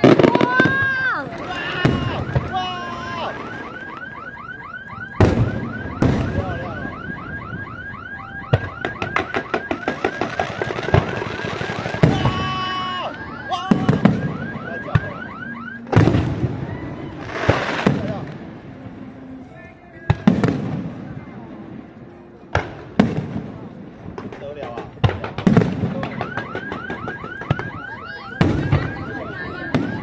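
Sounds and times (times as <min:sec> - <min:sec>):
firework crackling: 0:00.0 - 0:19.5, 0:20.1 - 0:30.0
whistling fireworks: 0:00.0 - 0:21.8, 0:22.5 - 0:30.0.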